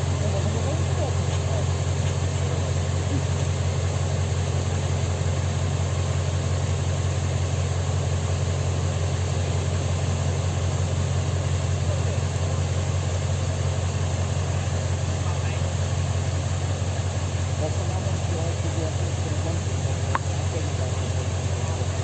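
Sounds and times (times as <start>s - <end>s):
heavy engine idling: 0.0s - 22.0s.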